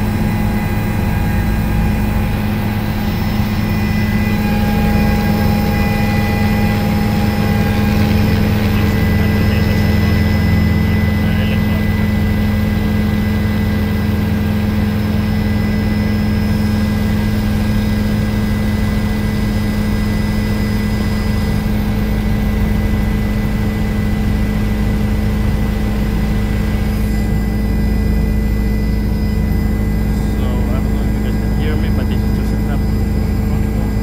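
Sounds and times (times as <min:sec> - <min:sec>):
helicopter engine and rotor drone: 0:00.0 - 0:34.0
high whining tones: 0:00.0 - 0:34.0.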